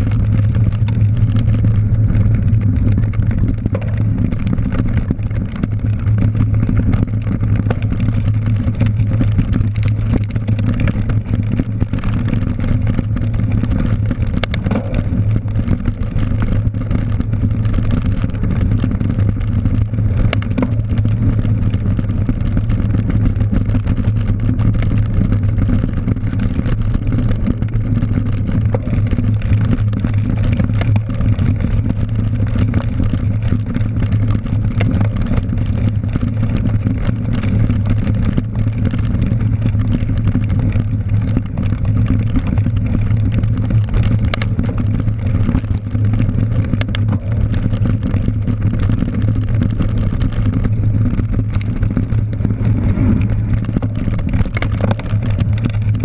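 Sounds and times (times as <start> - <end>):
bike tyres rumbling on dirt: 0.0 - 56.0.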